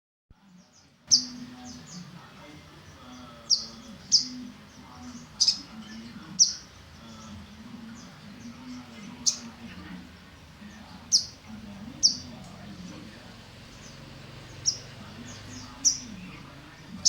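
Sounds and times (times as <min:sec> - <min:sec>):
bird chirping: 0:00.5 - 0:17.0.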